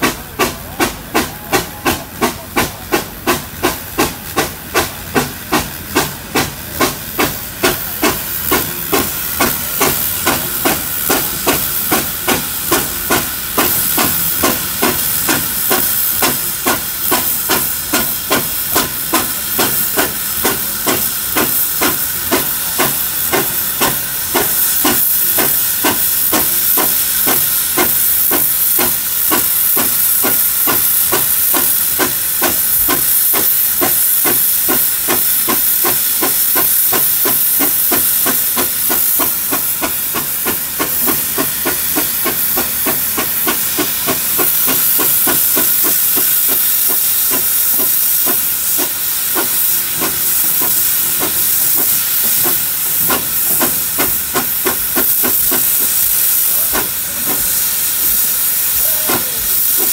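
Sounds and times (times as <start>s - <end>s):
steam engine exhaust beats: 0.0s - 59.9s
steam hissing: 0.0s - 59.9s.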